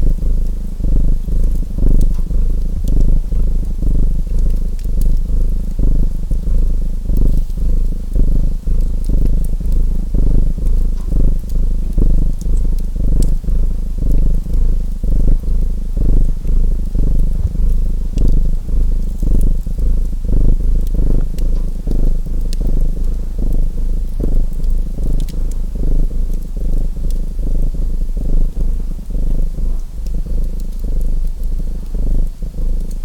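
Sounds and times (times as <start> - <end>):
cat purring: 0.0 - 33.0
faint wood fire crackles: 0.0 - 33.0.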